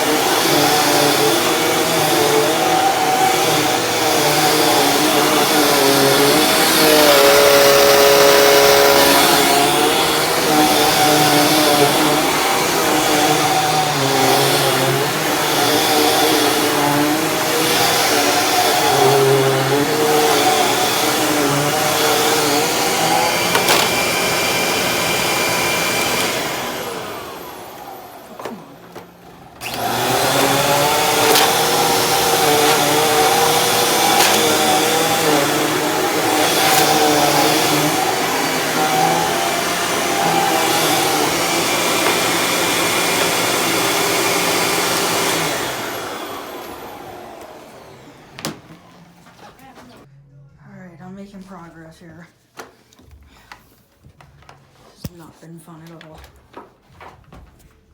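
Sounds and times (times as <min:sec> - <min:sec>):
vacuum cleaner on carpet: 0:00.0 - 0:50.1.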